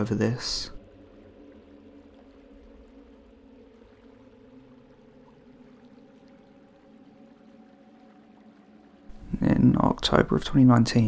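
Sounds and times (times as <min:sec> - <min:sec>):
low steady hum: 0:00.0 - 0:11.0
running water: 0:00.0 - 0:11.0.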